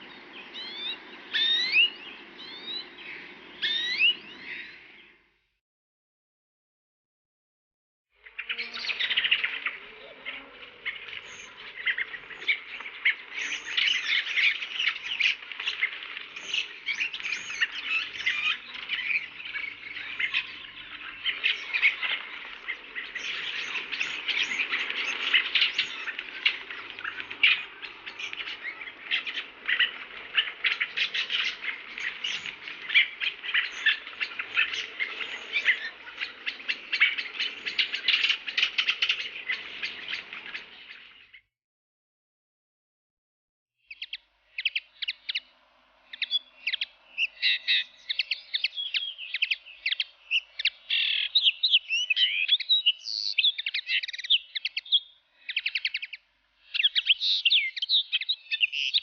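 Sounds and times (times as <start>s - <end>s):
birds chirping and chattering: 0.0s - 5.2s, 8.2s - 41.5s, 43.9s - 59.0s.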